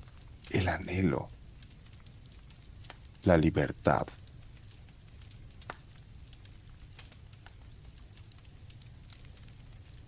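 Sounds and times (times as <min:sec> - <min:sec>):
campfire crackling and popping: 0:00.0 - 0:10.0
crickets chirping: 0:00.0 - 0:10.0.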